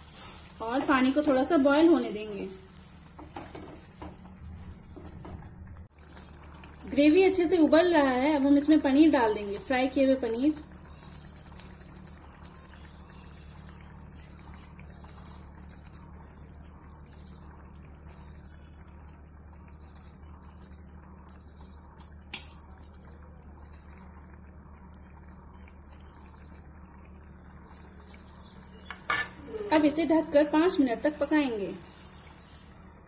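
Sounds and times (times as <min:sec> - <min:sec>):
gravy bubbling in a pan: 0:00.0 - 0:33.0.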